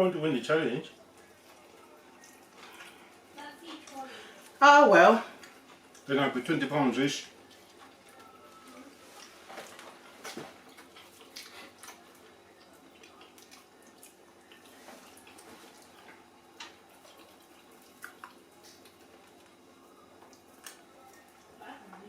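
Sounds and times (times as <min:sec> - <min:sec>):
faint room hum: 0:00.0 - 0:22.0
people chewing and eating: 0:00.0 - 0:22.0.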